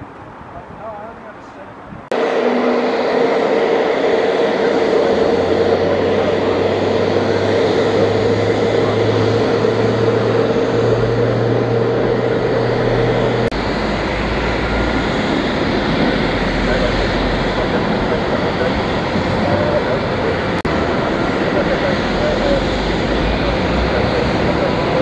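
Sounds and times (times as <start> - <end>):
helicopter engine whine: 2.1 - 25.0
low hum: 2.1 - 25.0
rotor noise: 2.1 - 25.0.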